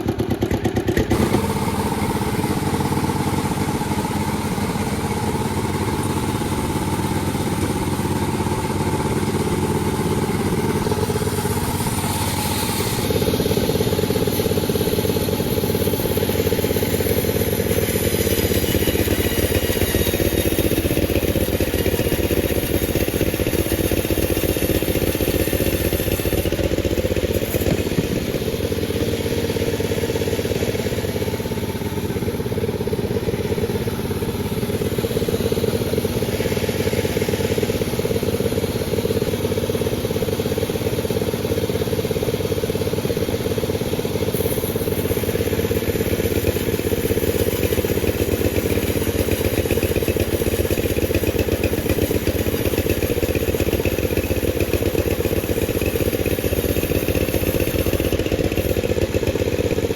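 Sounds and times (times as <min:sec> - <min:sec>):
chainsaw running: 0:00.0 - 0:59.9
high hiss: 0:01.1 - 0:41.2, 0:44.2 - 0:59.8.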